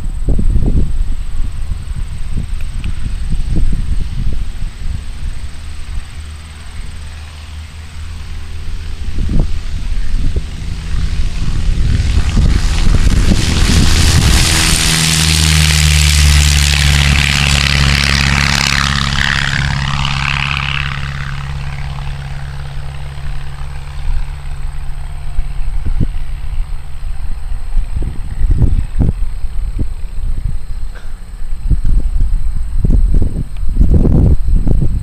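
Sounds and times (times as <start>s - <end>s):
propeller plane taking off: 0.0s - 35.0s.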